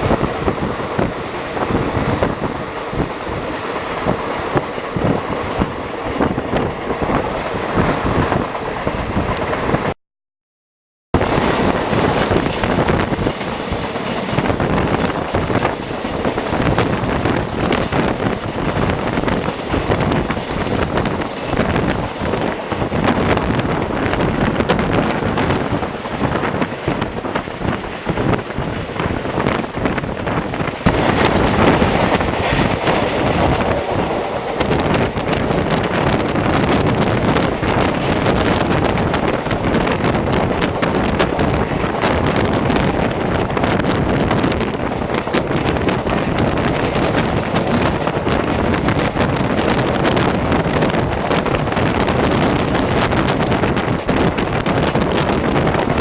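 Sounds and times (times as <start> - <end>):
wind buffeting microphone: 0.0 - 10.0, 11.2 - 56.0
train wheels clattering on rails: 11.2 - 56.0.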